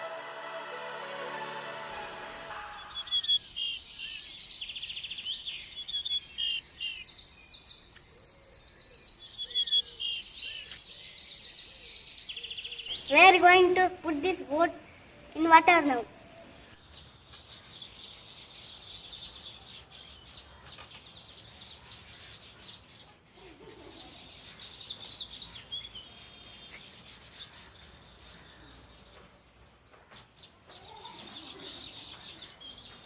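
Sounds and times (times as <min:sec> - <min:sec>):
small birds chirping: 0:02.8 - 0:33.0.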